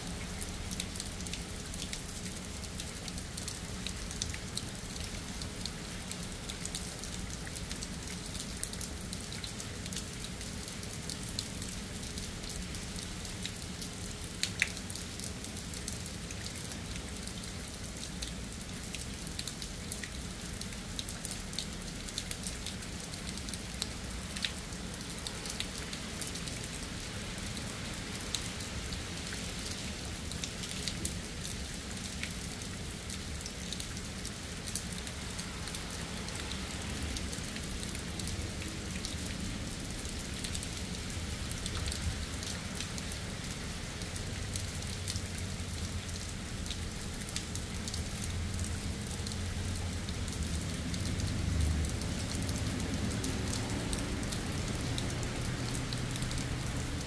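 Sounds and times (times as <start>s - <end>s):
raindrops ticking close by: 0.0s - 57.0s
steady rain falling: 0.0s - 57.0s.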